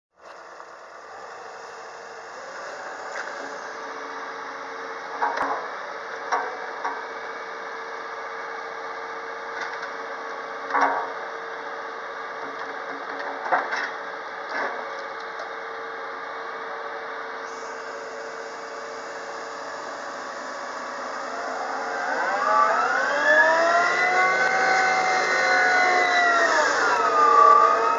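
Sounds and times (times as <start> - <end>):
excavator hydraulics humming: 0.2 - 12.8, 13.4 - 27.9.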